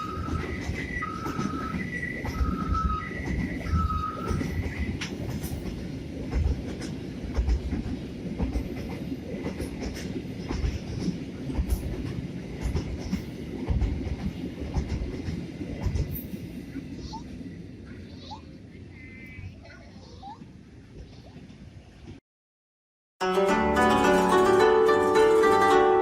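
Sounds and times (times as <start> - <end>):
freight train wagons rumbling: 0.0 - 22.2.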